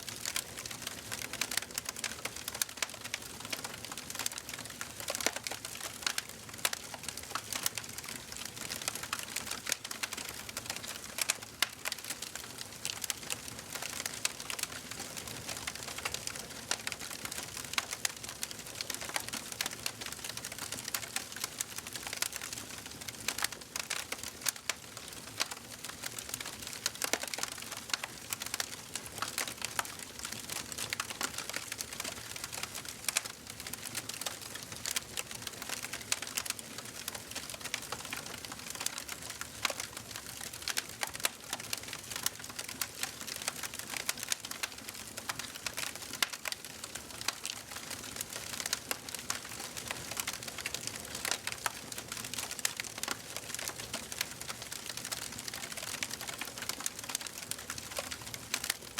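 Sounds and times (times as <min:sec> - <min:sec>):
wood fire crackling: 0:00.1 - 0:58.9.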